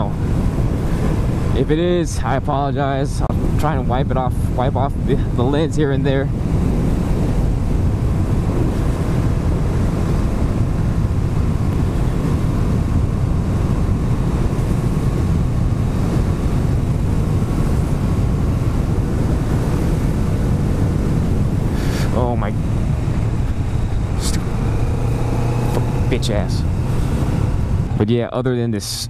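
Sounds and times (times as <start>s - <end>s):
motorcycle engine rumbling: 0.0s - 29.0s
road noise: 0.0s - 29.0s.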